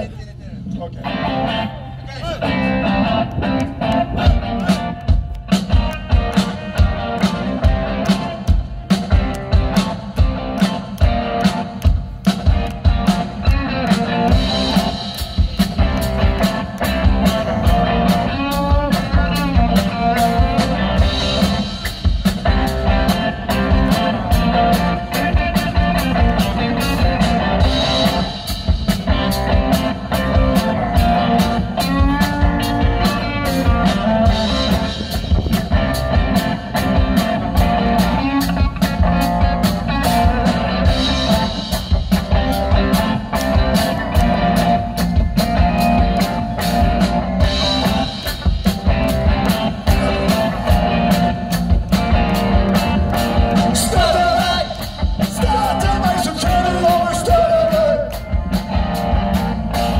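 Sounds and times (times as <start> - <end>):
electric bass: 0.0 - 59.9
electric guitars: 0.0 - 59.9
drum kit beat: 2.3 - 59.9.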